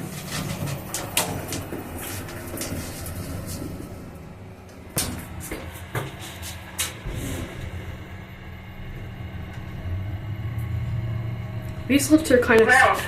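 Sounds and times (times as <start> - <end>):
lift running with low hum: 0.0 - 13.0.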